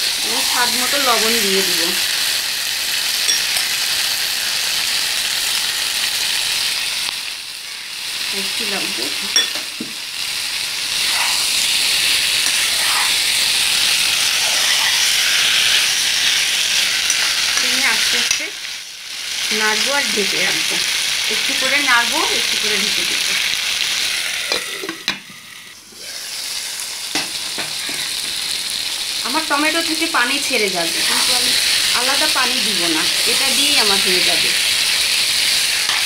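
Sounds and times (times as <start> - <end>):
curry sizzling in a pan: 0.0 - 36.0.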